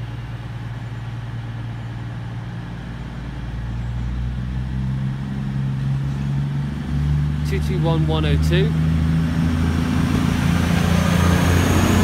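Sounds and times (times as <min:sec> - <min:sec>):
higher engine note: 0:00.0 - 0:12.0
train diesel engines droning: 0:00.0 - 0:12.0.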